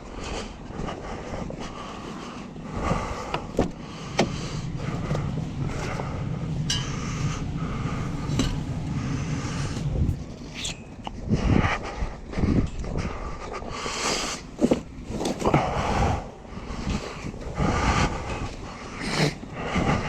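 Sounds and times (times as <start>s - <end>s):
truck idling: 0.0s - 20.0s.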